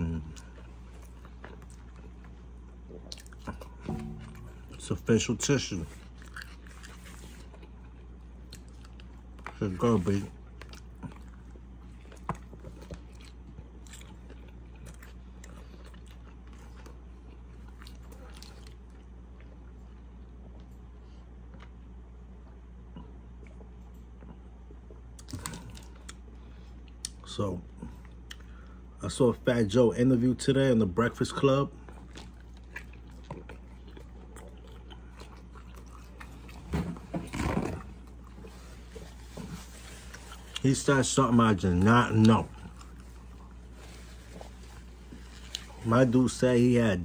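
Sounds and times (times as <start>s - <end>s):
person chewing food: 0.0s - 29.0s, 31.7s - 46.2s
steady low hum: 0.0s - 47.0s.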